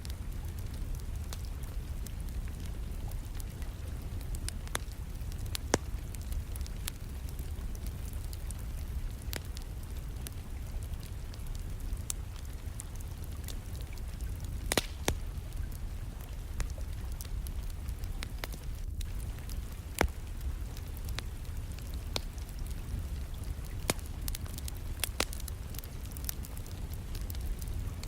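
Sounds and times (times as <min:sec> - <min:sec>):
rain rumbling: 0:00.0 - 0:28.0
wood fire crackling and popping: 0:00.0 - 0:28.0.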